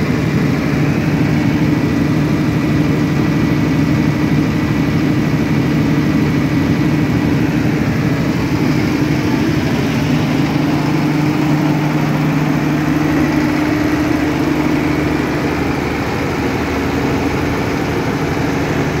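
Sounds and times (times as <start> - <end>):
diesel generator running: 0.0 - 19.0.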